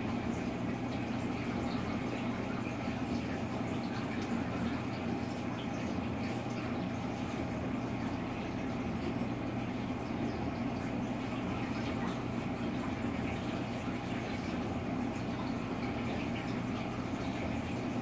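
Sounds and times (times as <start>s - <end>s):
aquarium pump hum: 0.0s - 18.0s
water rushing and bubbling: 0.0s - 18.0s.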